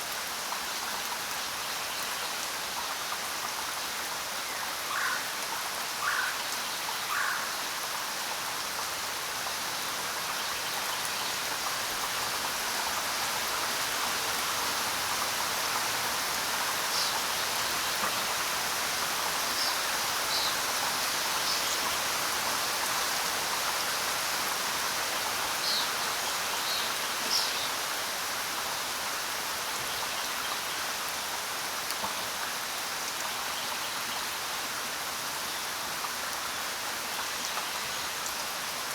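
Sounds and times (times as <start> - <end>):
rain falling on ground: 0.0 - 38.9.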